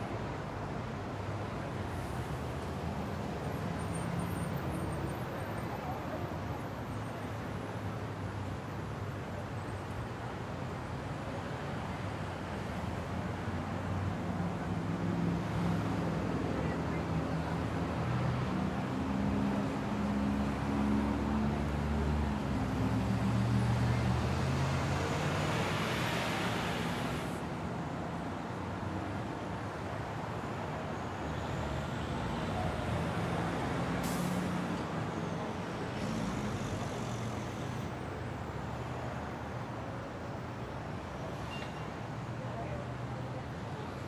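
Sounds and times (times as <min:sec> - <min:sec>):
city street traffic: 0:00.0 - 0:44.0.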